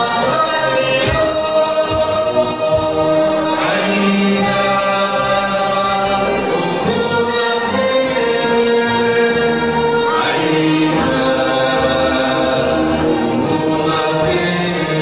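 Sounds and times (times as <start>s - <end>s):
group singing in chorus: 0.0s - 15.0s.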